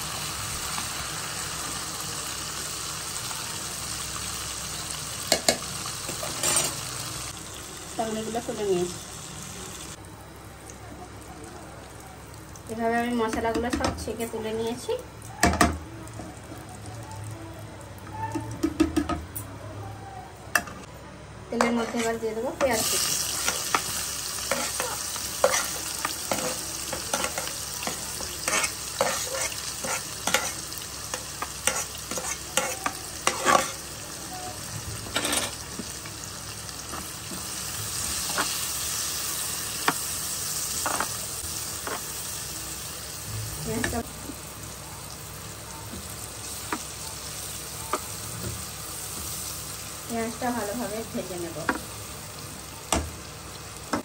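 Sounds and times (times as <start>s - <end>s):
onion sizzling in oil: 0.0s - 17.0s, 21.5s - 54.0s.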